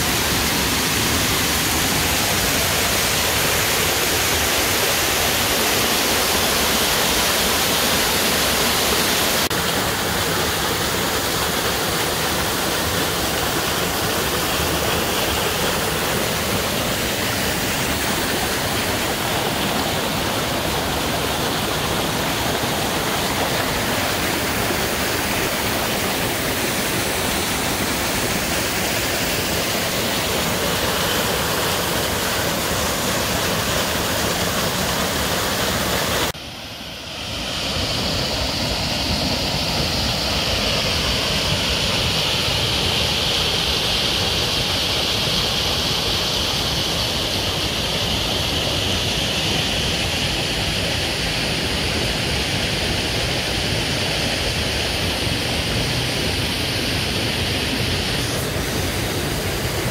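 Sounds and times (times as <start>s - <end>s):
water rushing over rocks: 0.0s - 59.9s.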